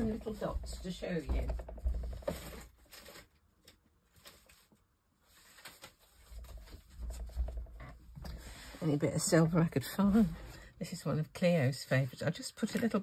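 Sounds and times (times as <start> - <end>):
rustling craft supplies: 0.0 - 13.0.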